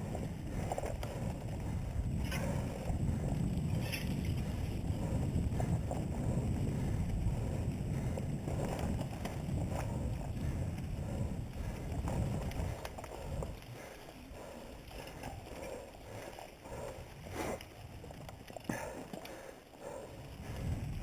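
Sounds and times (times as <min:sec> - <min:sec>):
bike rattling and clicking: 0:00.0 - 0:21.0
wind buffeting microphone: 0:00.0 - 0:21.0.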